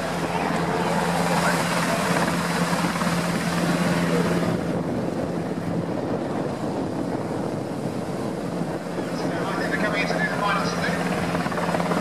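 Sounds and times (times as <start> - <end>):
helicopter hovering: 0.0 - 12.0
wind on microphone: 0.0 - 12.0.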